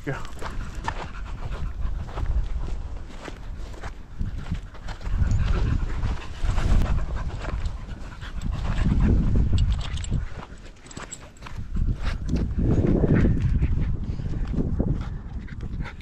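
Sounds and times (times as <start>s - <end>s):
dogs panting: 0.2s - 16.0s
low rumble on microphone: 0.4s - 10.5s, 11.6s - 16.0s.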